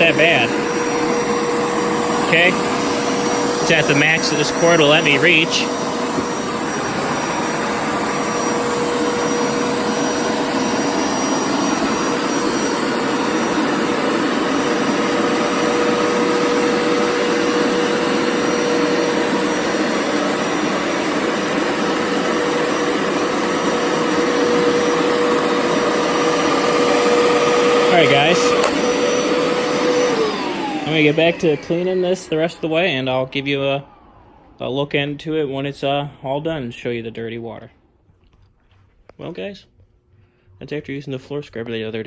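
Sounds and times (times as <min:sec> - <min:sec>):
carpet cleaner motor whining: 0:00.0 - 0:36.0.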